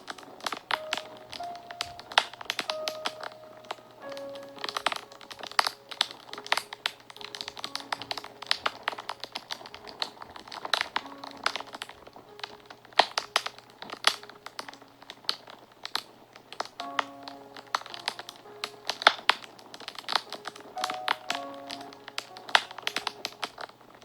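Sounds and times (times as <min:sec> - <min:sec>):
soft background music: 0:00.0 - 0:24.0
wood fire crackling and popping: 0:00.0 - 0:24.0.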